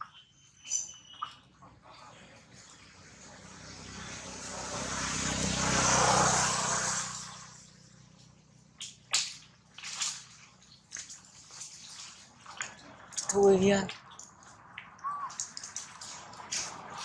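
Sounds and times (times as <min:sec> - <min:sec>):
low engine hum: 0:01.6 - 0:17.0
motor vehicle passing: 0:01.6 - 0:17.0.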